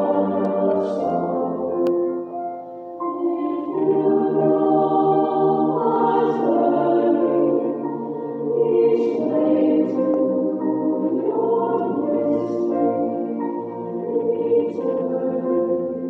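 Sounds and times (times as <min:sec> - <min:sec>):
a cappella choir singing: 0:00.0 - 0:02.2, 0:03.0 - 0:16.0.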